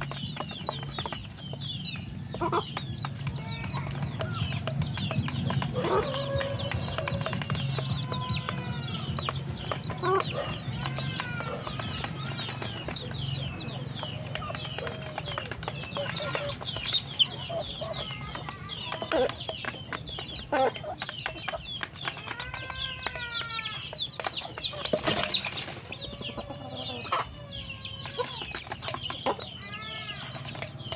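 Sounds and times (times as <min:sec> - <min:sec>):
beaks tapping on feed basin: 0:00.0 - 0:30.9
chickens scuffling: 0:00.0 - 0:30.9
chicks peeping: 0:00.0 - 0:30.9
hens clucking: 0:00.0 - 0:30.9.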